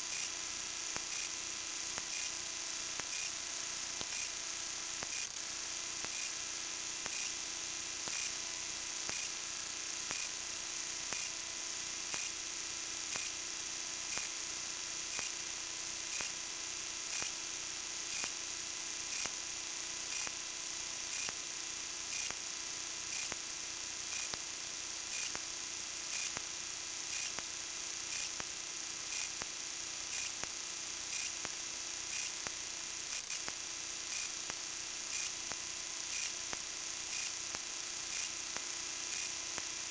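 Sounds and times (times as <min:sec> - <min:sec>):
electrical hum and hiss: 0:00.0 - 0:39.9.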